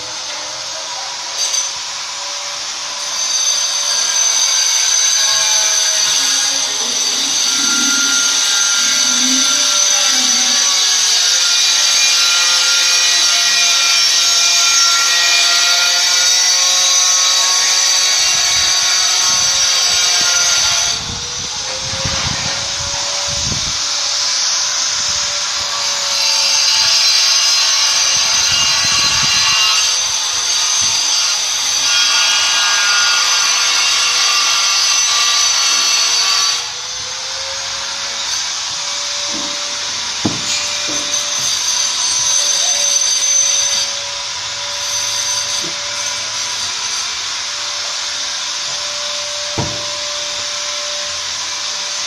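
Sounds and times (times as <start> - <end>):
power tool cutting tiles: 0.1 - 52.0.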